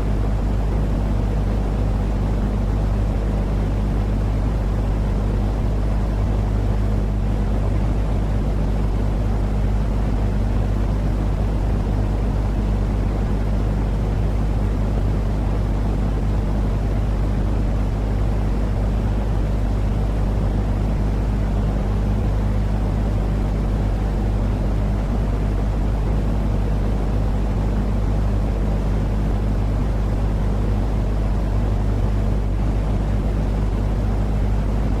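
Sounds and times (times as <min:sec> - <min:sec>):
low steady noise: 0:00.0 - 0:35.0.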